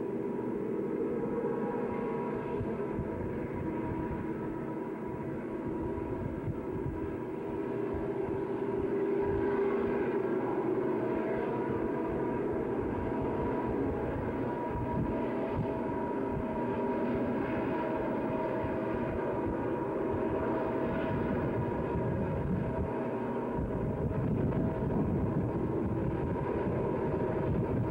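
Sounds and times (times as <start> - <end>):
distant diesel locomotives droning: 0.0 - 27.9.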